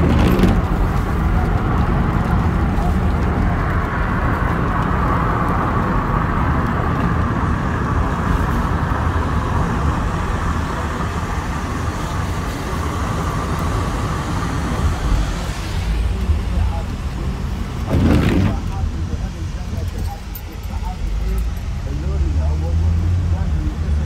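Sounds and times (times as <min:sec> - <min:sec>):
car road noise on wet road: 0:00.0 - 0:24.0.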